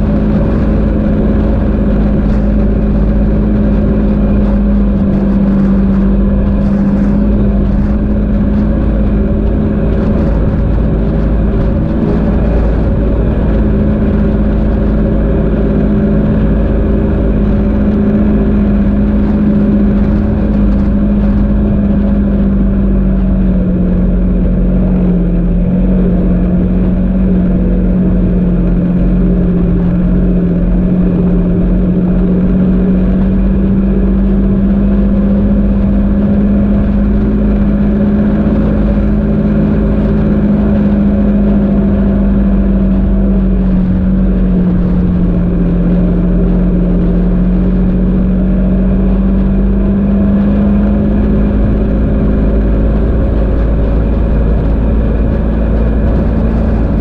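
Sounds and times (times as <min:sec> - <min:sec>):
low rumble: 0:00.0 - 0:57.0
vehicle engine droning: 0:00.0 - 0:57.0.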